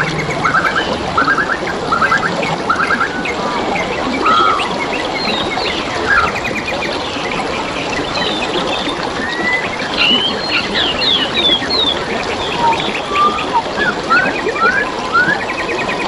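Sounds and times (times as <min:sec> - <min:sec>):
songbirds chirping and trilling: 0:00.0 - 0:16.0
stream water trickling: 0:00.0 - 0:16.0.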